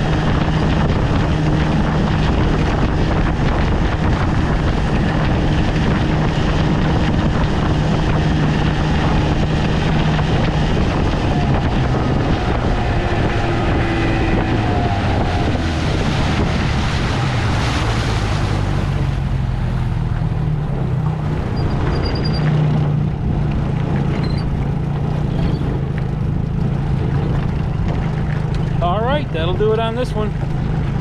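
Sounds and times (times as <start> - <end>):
outboard motor running: 0.0 - 31.0
wind noise on microphone: 0.0 - 31.0.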